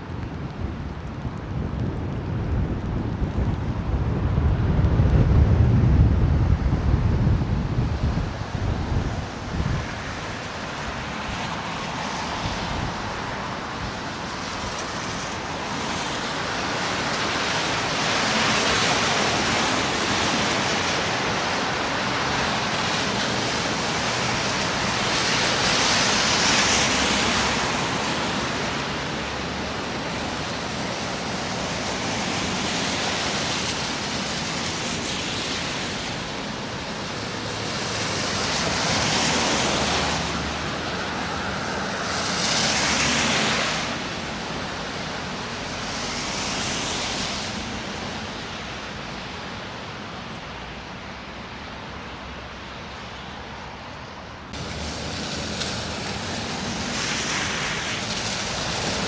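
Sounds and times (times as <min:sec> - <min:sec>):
low traffic rumble: 0:00.0 - 0:59.0
tyre hiss on slushy road: 0:09.3 - 0:53.2, 0:53.8 - 0:59.0.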